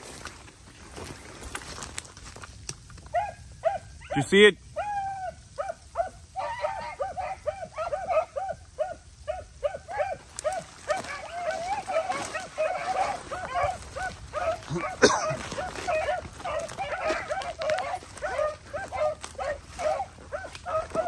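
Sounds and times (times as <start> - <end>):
hounds baying: 3.1 - 21.0.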